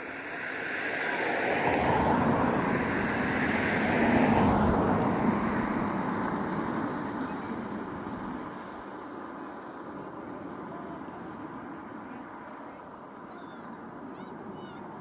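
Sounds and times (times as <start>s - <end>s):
aircraft flying past: 0.1s - 15.0s.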